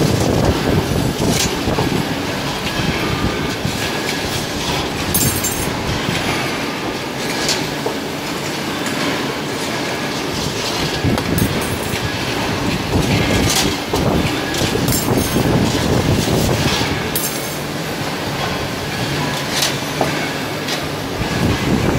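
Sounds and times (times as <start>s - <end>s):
wire bending machine clatter: 0.0s - 21.9s.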